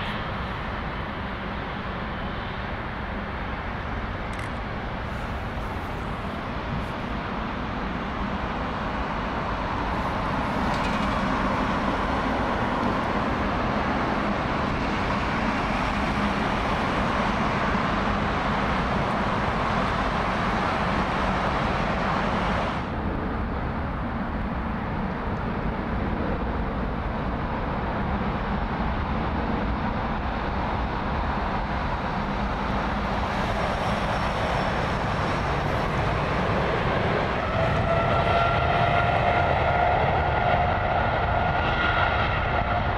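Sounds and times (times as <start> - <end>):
jet engines idling: 0.0 - 41.6.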